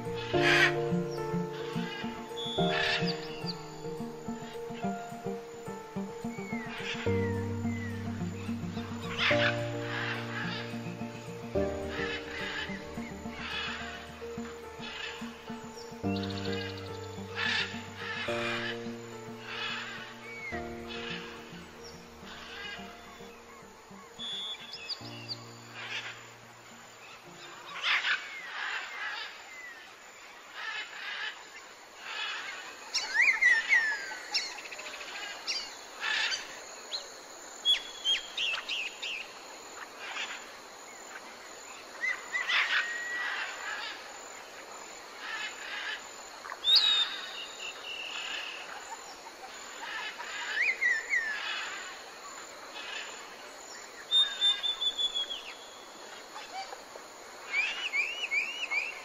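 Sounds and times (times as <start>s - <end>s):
wild birds chirping: 0.0s - 59.0s.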